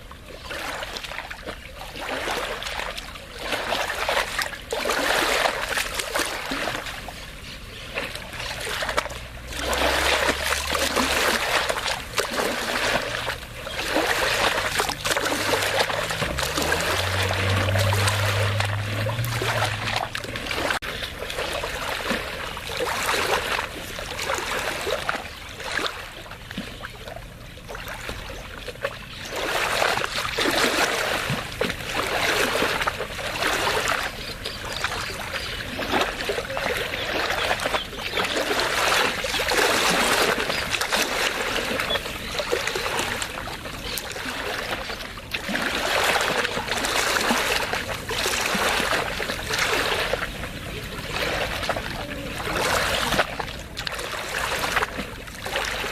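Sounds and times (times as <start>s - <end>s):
small waves lapping on shore: 0.0s - 55.9s.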